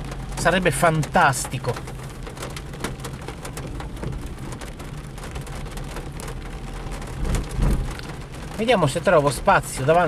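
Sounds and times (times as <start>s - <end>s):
car engine hum: 0.0s - 10.0s
heavy rain on car roof: 0.0s - 10.0s.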